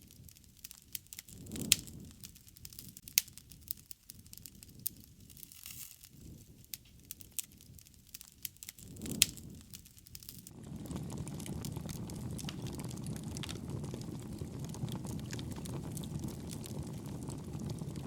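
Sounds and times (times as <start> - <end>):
fire popping: 0.0 - 18.0
low rush of burning: 0.0 - 18.0
wood fire crackling: 0.0 - 18.0.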